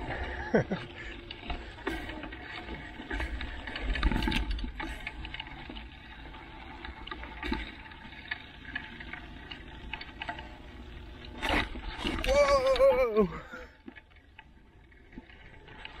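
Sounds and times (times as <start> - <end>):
bike clicks and rattles: 0.0 - 16.0
bike tyre rumble: 0.0 - 16.0.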